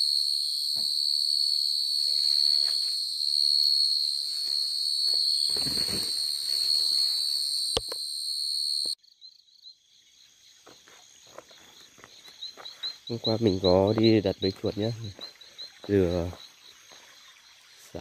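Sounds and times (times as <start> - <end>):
insect trilling: 0.0 - 10.3, 11.2 - 18.0
rhythmic insect chirps: 0.0 - 18.0.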